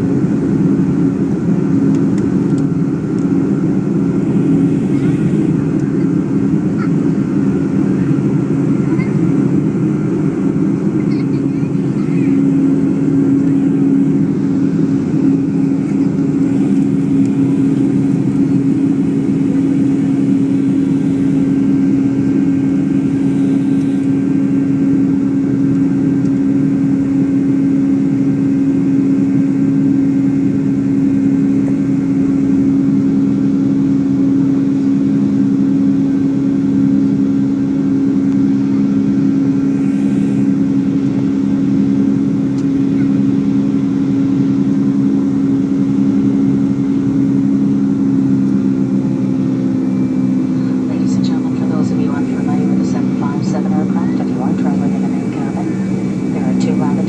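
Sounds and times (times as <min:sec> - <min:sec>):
aircraft engine and airflow rush: 0:00.0 - 0:57.0
low hum: 0:00.0 - 0:57.0.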